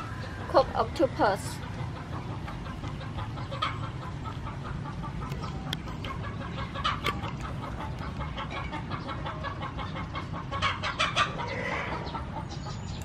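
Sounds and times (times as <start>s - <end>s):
chickens clucking: 0.2s - 13.0s.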